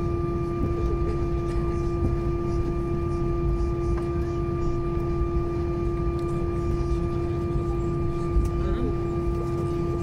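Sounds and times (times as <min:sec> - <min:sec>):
aircraft engines humming: 0:00.0 - 0:10.0.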